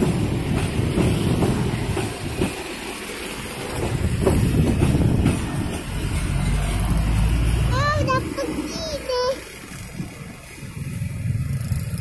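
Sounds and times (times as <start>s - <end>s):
train wheels rumbling and clacking: 0.0s - 12.0s.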